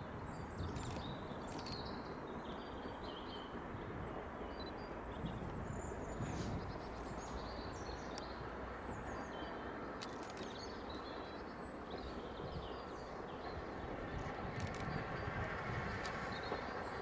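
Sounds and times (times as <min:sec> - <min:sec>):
small birds chirping: 0:00.2 - 0:17.0.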